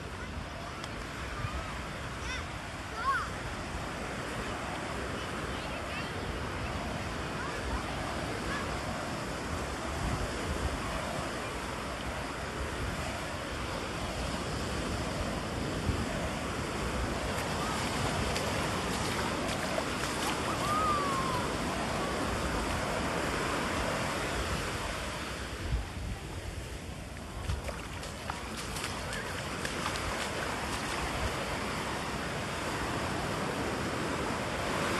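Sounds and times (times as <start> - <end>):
surf breaking on beach: 0.0 - 34.9.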